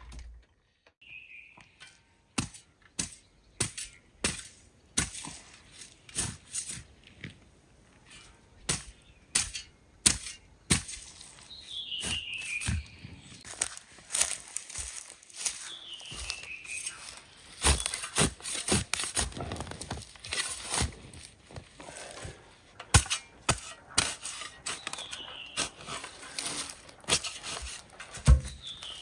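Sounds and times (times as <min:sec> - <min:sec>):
spade digging into rooty soil: 0:01.7 - 0:07.0, 0:08.1 - 0:29.0.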